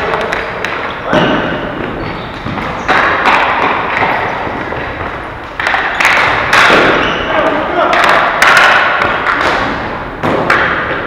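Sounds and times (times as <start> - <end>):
thuds against rink boards: 0.1 - 11.0.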